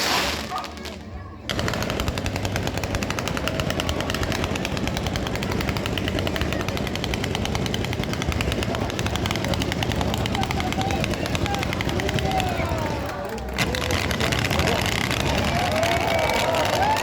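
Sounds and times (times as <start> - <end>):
firecrackers going off: 0.0 - 17.0.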